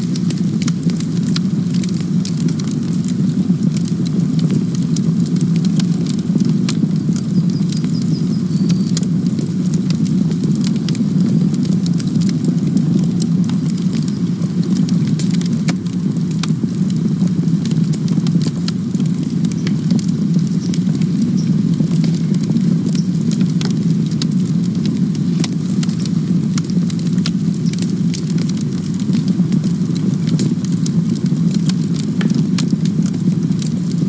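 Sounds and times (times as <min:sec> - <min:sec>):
campfire flames rumbling: 0:00.0 - 0:34.0
wood crackling and popping: 0:00.0 - 0:34.0.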